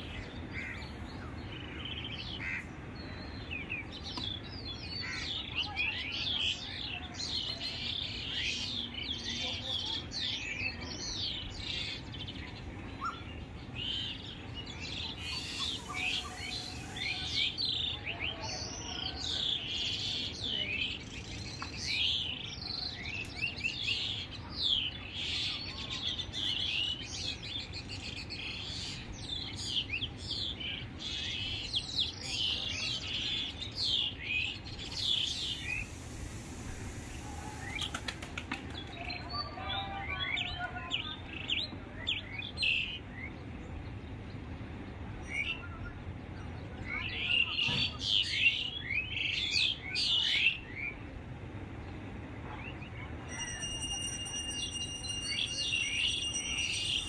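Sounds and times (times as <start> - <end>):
birds chirping and twittering: 0.0 - 57.0.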